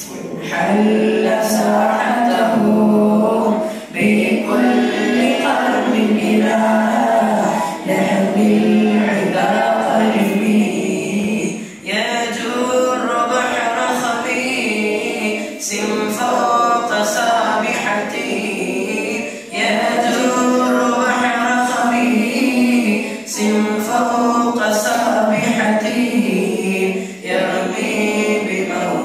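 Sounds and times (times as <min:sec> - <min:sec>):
boys chanting in unison: 0:00.0 - 0:29.0.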